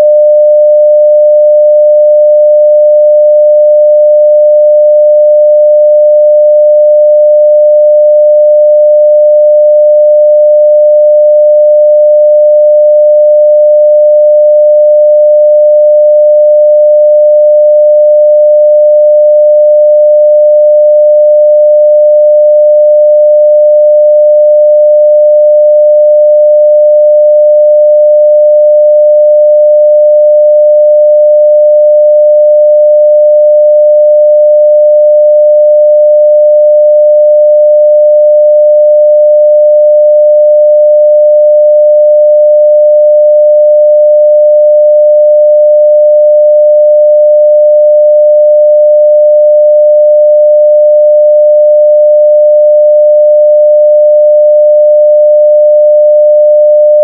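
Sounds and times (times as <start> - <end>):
sine-wave test tone: 0.0 - 57.0.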